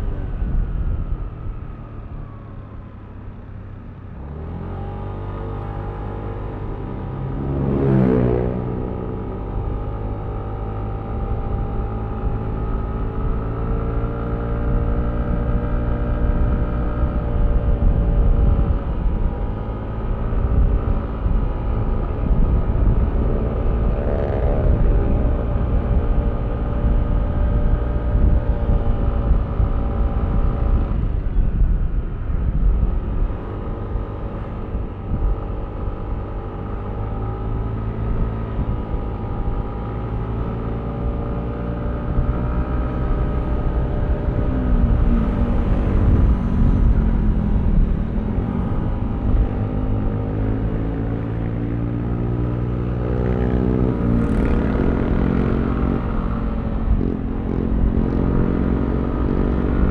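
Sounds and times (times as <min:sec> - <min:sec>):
wind buffeting microphone: 0:06.2 - 0:59.9.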